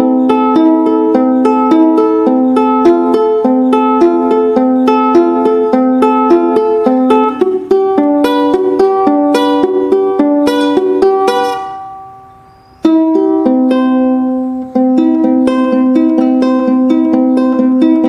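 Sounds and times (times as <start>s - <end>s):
ukulele strumming chords: 0.0s - 18.0s.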